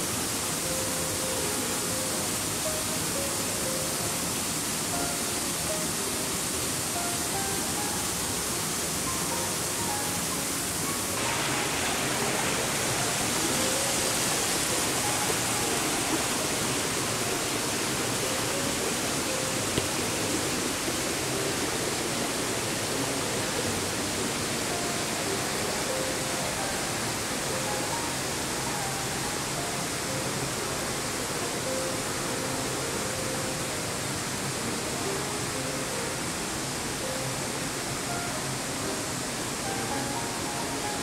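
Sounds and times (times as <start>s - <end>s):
rushing hiss: 0.0s - 41.0s.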